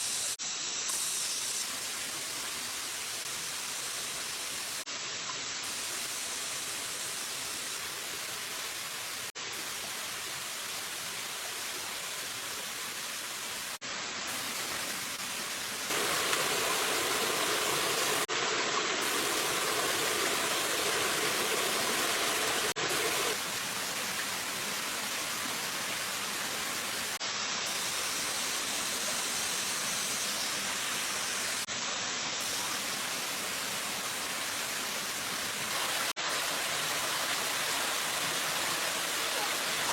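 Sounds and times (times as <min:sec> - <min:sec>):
stream water flowing: 0:01.7 - 0:39.9.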